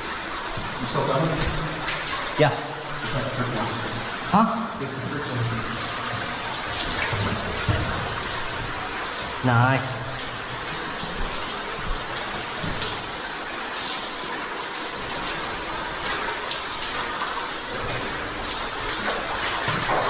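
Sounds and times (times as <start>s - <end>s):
water rushing in cave stream: 0.0s - 20.0s.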